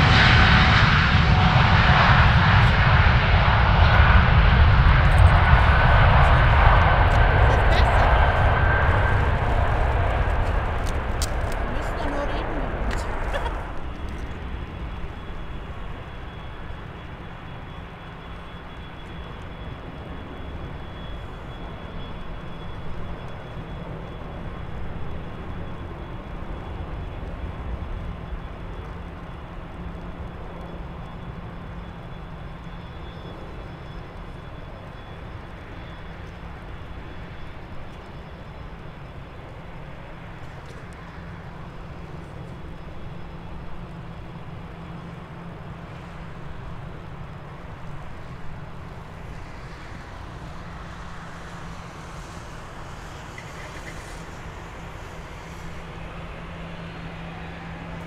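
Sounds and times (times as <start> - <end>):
distant jet rumble: 0.0 - 58.0
faint high whine: 0.0 - 58.0.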